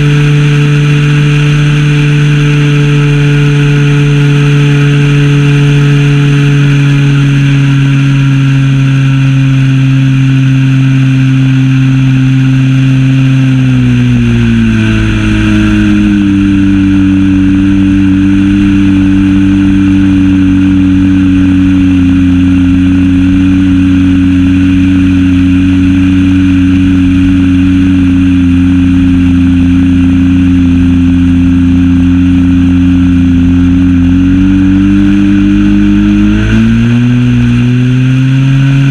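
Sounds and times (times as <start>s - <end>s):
model plane engine droning: 0.0s - 38.9s.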